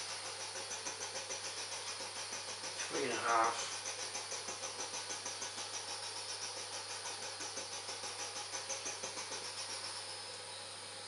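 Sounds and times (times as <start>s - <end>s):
high-pitched fluttering sputter: 0.0s - 11.0s
steam boiler hissing: 0.0s - 11.0s.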